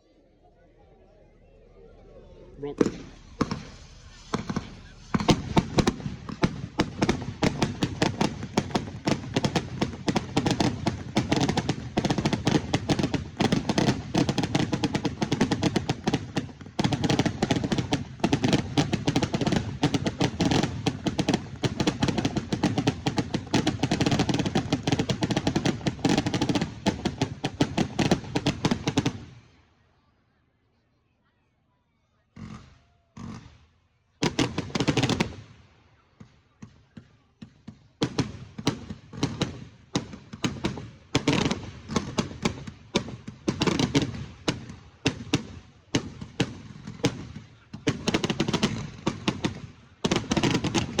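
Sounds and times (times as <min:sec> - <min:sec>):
fireworks crackling bangs: 0:02.6 - 0:29.4, 0:34.2 - 0:35.6, 0:36.2 - 0:51.0.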